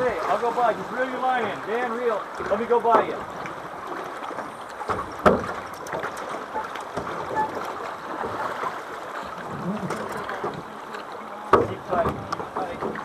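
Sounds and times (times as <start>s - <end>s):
river water running: 0.0s - 13.0s.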